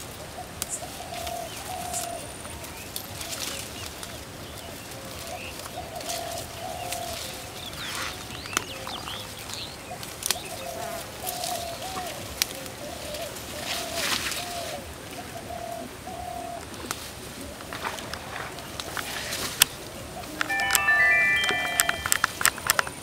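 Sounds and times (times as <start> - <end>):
leaves rustling: 0.0 - 22.6.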